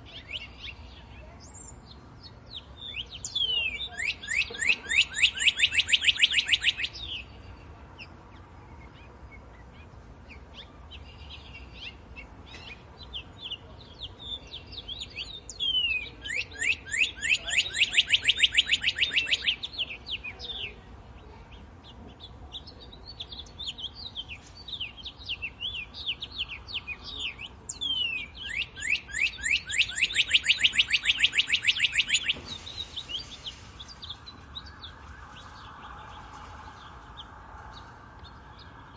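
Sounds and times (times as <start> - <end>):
birds chirping softly: 0.0 - 38.9.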